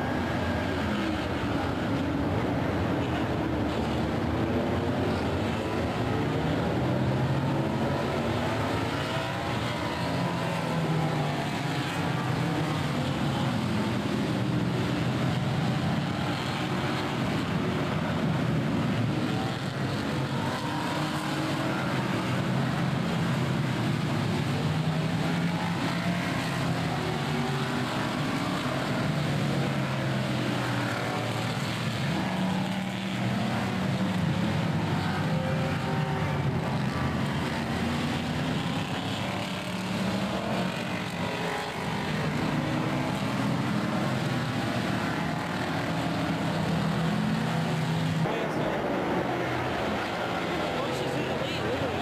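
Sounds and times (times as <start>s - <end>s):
race car engines passing: 0.0s - 52.0s.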